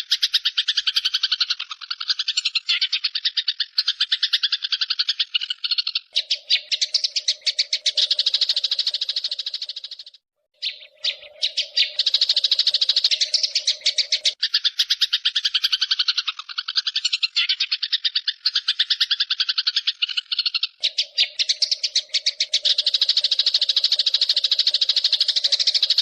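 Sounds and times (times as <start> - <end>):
rapid animal call trill: 0.0 - 26.0.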